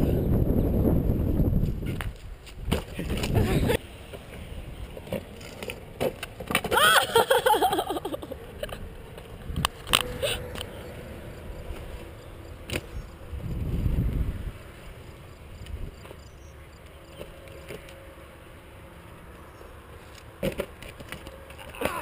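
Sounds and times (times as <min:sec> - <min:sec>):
board wheels rolling on concrete: 0:00.5 - 0:21.8.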